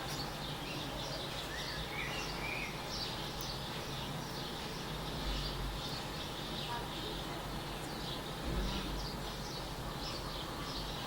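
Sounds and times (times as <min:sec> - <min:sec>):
small birds chirping: 0:00.0 - 0:11.0
steady hiss and low hum: 0:00.0 - 0:11.0.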